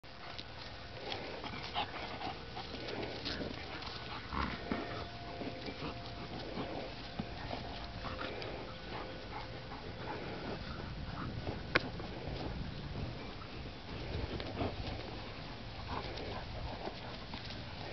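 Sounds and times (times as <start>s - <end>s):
dogs panting: 0.0s - 17.9s
dog play noises: 0.1s - 17.9s.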